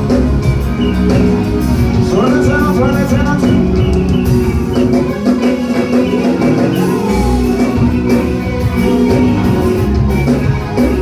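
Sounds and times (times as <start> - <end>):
band music with steady beat: 0.0 - 11.0.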